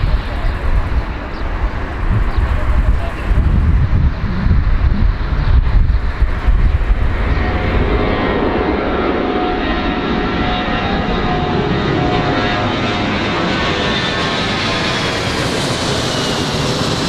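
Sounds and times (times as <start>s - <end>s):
airplane engines running: 0.0s - 17.0s.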